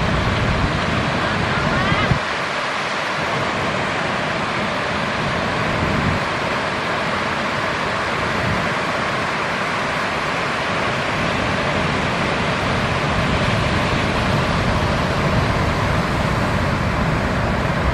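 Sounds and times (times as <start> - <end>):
ocean surf breaking: 0.0 - 17.9
wind on microphone: 0.0 - 17.9.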